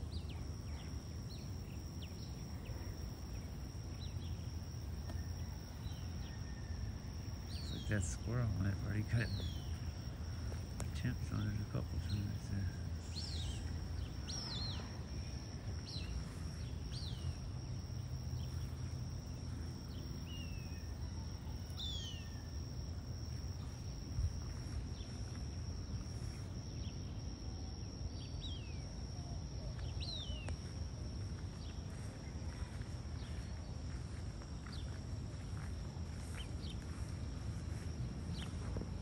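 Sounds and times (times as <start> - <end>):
low outdoor rumble: 0.0 - 28.3, 29.7 - 39.0.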